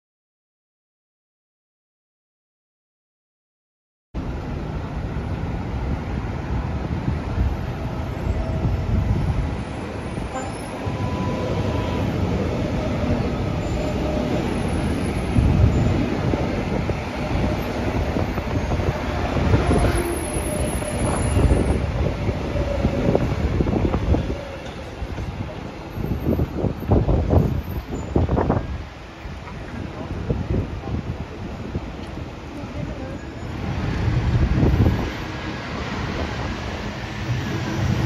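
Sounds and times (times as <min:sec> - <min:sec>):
train wheels rumbling on rails: 0:04.3 - 0:38.0.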